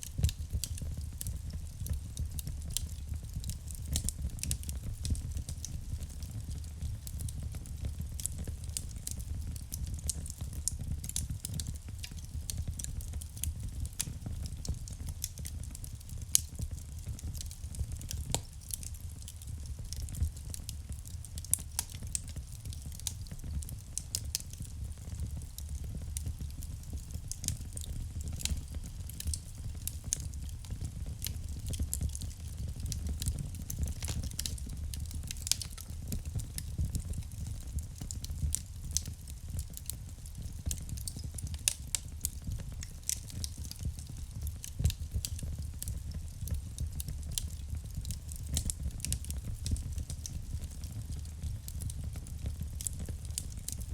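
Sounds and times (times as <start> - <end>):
burning wood crackling and popping: 0.0 - 53.9
fire flames rumbling: 0.0 - 53.9.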